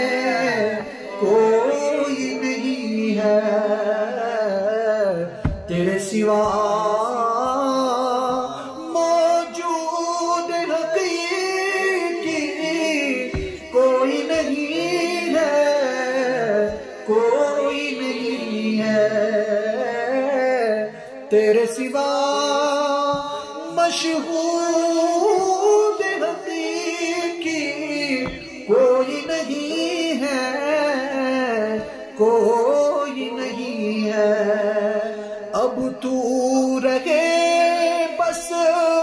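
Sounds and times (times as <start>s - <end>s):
person singing ornamented phrases: 0.0s - 39.0s.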